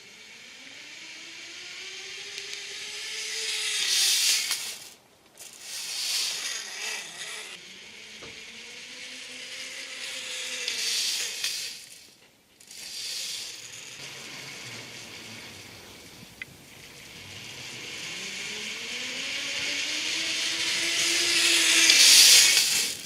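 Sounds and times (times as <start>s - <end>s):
cordless drill driving screws: 2.4s - 7.6s, 9.6s - 23.0s.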